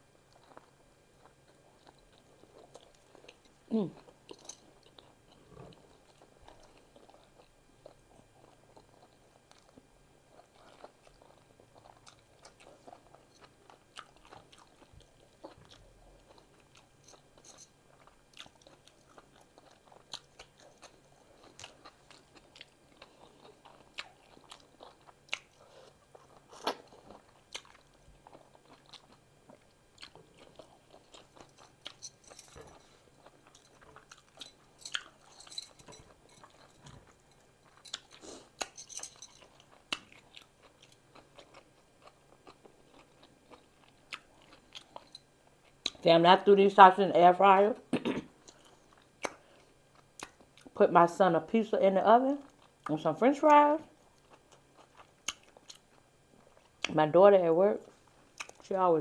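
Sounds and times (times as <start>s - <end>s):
chewing sandwich: 0.2s - 46.0s, 48.3s - 50.8s, 52.4s - 52.9s, 53.9s - 56.9s, 57.9s - 58.6s.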